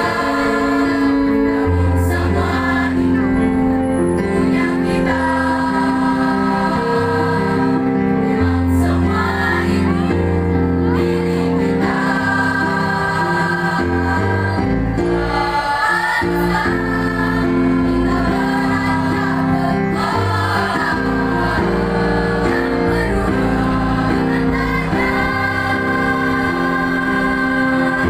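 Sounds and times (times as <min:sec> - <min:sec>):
choir singing in harmony: 0:00.0 - 0:28.0.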